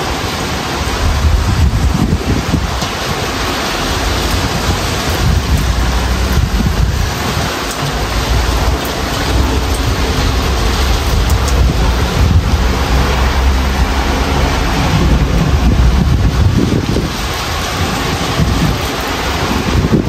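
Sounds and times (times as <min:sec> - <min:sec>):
low thunder rumble: 0:00.0 - 0:20.0
rain falling: 0:00.0 - 0:20.0
wind gusting: 0:00.0 - 0:20.0.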